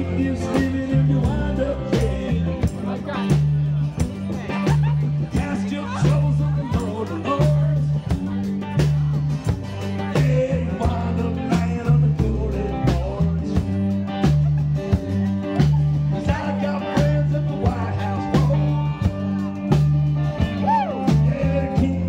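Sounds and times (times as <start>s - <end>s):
bass line: 0.0s - 22.0s
electric guitar playing: 0.0s - 22.0s
steady drum beat: 0.0s - 22.0s.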